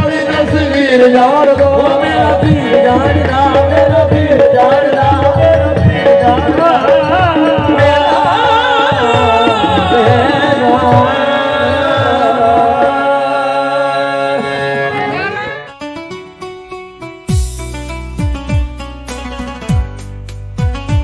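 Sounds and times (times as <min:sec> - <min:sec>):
drumming: 0:00.0 - 0:13.8, 0:17.2 - 0:21.0
harmoniums: 0:00.0 - 0:21.0.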